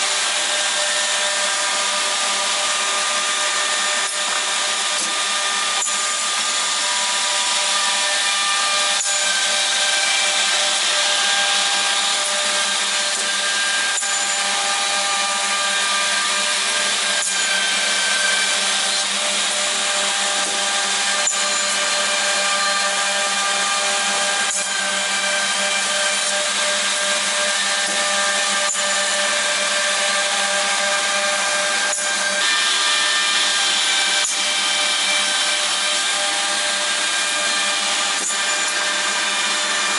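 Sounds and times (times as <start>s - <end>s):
machine motor whine: 0.0s - 39.9s.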